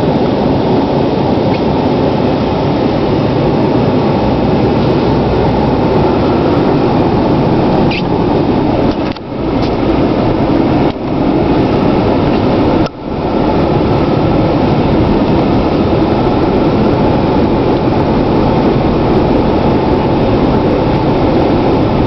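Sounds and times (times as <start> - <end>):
diesel truck engine running: 0.0 - 22.0
tyre and road noise: 0.0 - 22.0.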